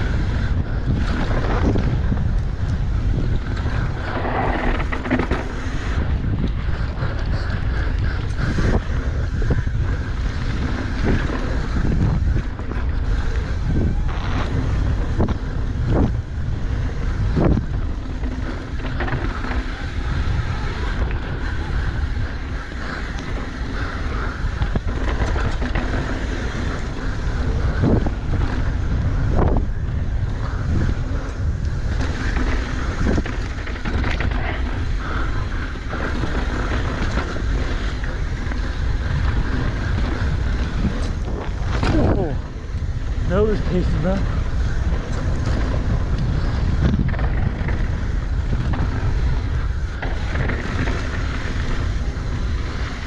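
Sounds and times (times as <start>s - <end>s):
bike knocks and rattles: 0.0s - 43.3s, 44.3s - 53.0s
tyres rumbling on dirt: 0.0s - 53.0s
wind buffeting microphone: 0.0s - 53.0s.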